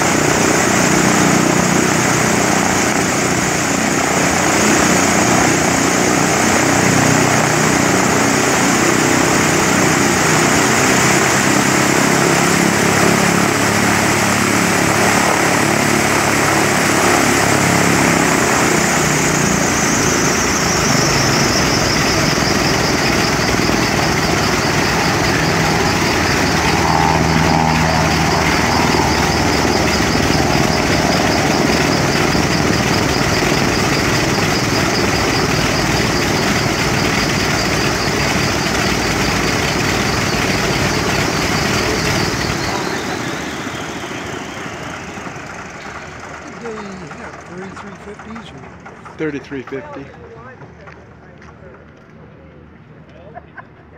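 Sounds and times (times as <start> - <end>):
high whine dropping in pitch: 0.0 - 48.2
propeller engine running: 0.0 - 53.9.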